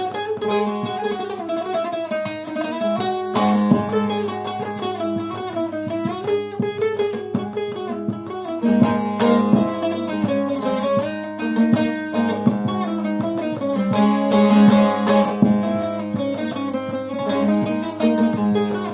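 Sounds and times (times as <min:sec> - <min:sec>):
plucked long-necked lute solo: 0:00.0 - 0:18.9.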